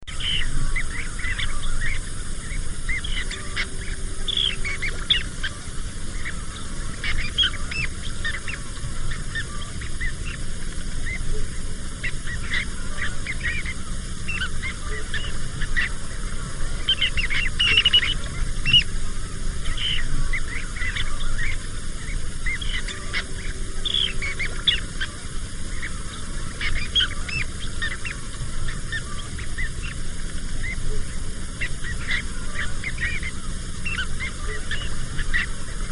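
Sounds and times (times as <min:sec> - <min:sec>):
flock of birds calling: 0:00.1 - 0:35.9
steady low rumble: 0:00.1 - 0:35.9.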